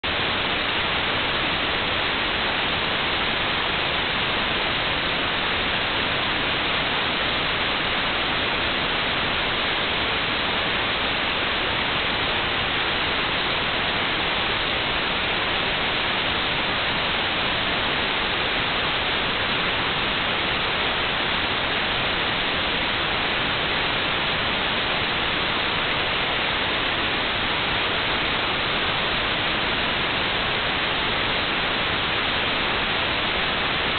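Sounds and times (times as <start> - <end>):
white noise hiss: 0.0 - 33.9.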